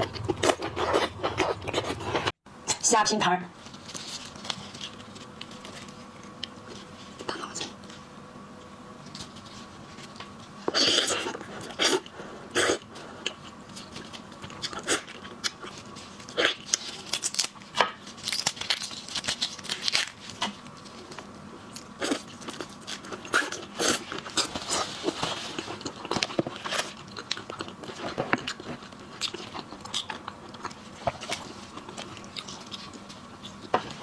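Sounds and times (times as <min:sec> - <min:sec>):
crunching and chewing seafood: 0:00.0 - 0:02.4, 0:03.6 - 0:08.1, 0:09.0 - 0:34.0.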